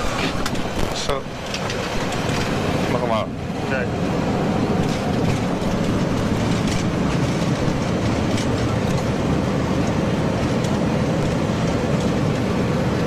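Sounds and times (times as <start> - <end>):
jet engine noise: 0.0 - 13.0
wheels rumbling on runway: 0.0 - 13.0.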